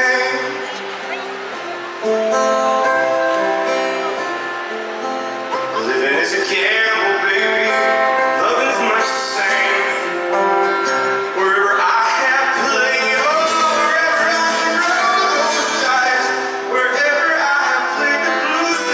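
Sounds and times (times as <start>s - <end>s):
acoustic guitar: 0.0s - 18.9s
live rock band music: 0.0s - 18.9s.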